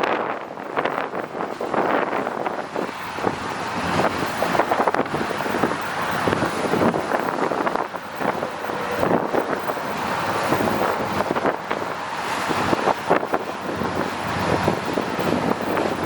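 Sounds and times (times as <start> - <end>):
freight train cars rolling: 0.0 - 16.0
wheels clicking on rails: 0.0 - 16.0
wind buffeting microphone: 0.0 - 16.0.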